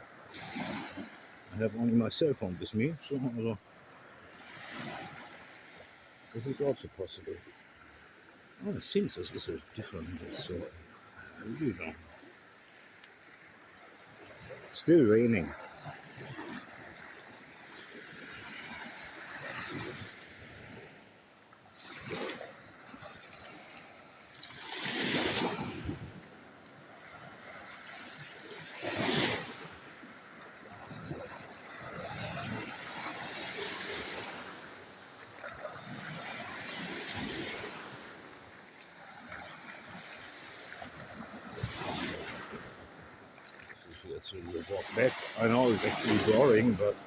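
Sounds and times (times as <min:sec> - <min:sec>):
surf washing onto beach: 0:00.0 - 0:47.0
waves crashing: 0:00.0 - 0:47.0.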